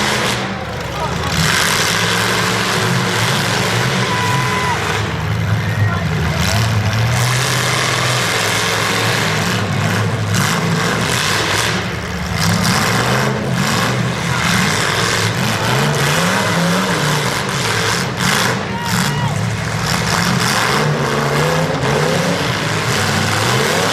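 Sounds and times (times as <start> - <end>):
car engines revving: 0.0 - 23.9.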